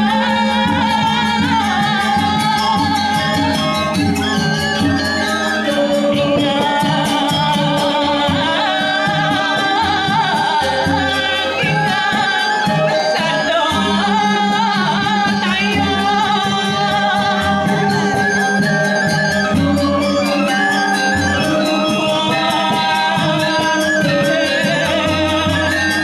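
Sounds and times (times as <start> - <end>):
ringing metallophone tones: 0.0 - 26.0
wavering high melody: 0.0 - 26.0.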